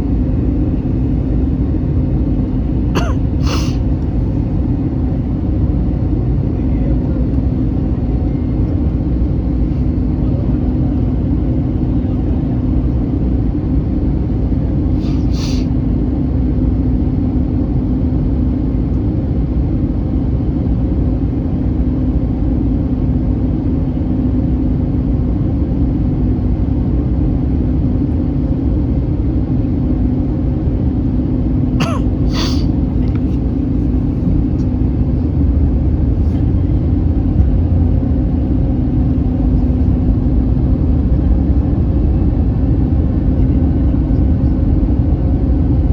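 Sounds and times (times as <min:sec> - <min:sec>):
aircraft engine hum: 0:00.0 - 0:45.9
airflow rushing in aircraft cabin: 0:00.0 - 0:45.9.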